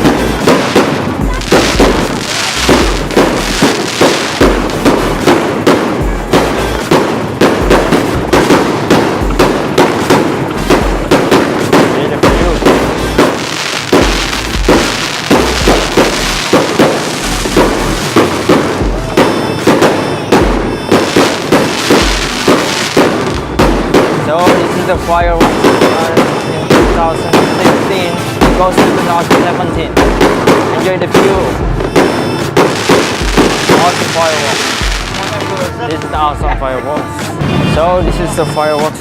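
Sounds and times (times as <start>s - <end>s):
fireworks bursting and crackling: 0.0s - 39.0s
music with a steady beat: 0.0s - 39.0s.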